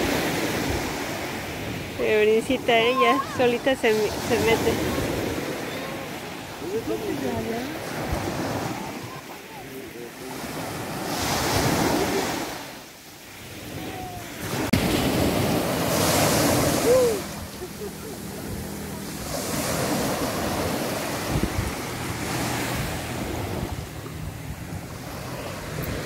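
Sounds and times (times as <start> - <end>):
small waves washing on sand: 0.0 - 26.0.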